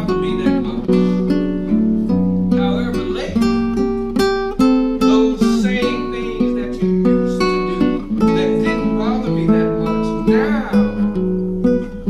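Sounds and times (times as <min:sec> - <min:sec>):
guitar plucked notes: 0:00.0 - 0:12.0.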